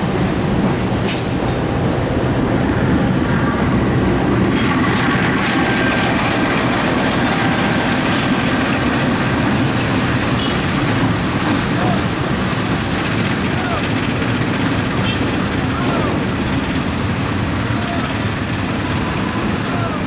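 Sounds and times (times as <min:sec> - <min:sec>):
locomotive engine rumbling: 0:00.0 - 0:20.0
road traffic noise: 0:00.0 - 0:20.0.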